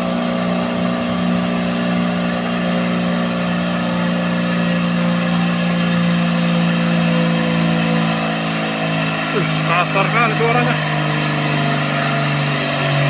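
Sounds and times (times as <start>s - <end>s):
truck diesel engine labouring: 0.0s - 13.0s.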